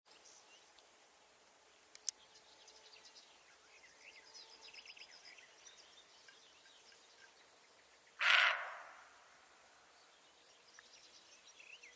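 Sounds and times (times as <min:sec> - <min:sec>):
birds chirping: 0:01.7 - 0:11.9.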